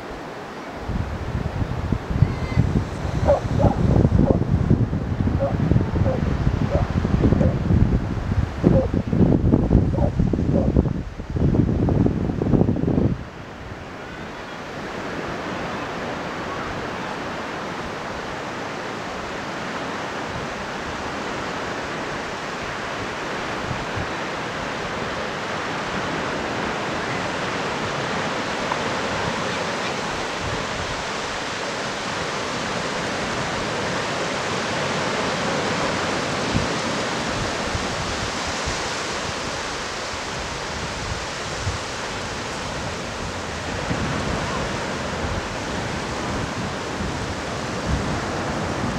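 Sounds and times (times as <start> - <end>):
surf breaking on beach: 0.0 - 48.9.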